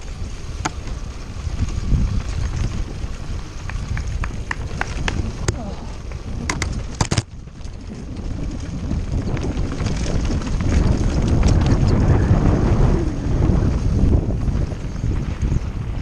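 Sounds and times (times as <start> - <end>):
bike clicks and rattles: 0.0 - 16.0
wind rushing over microphone: 0.0 - 16.0.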